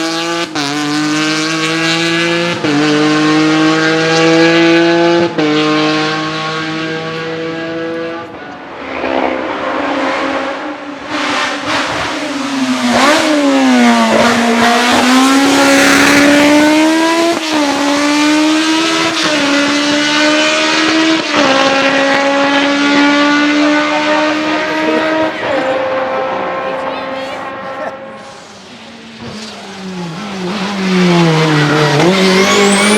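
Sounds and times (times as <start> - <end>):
race car engine at full throttle: 0.0 - 32.9.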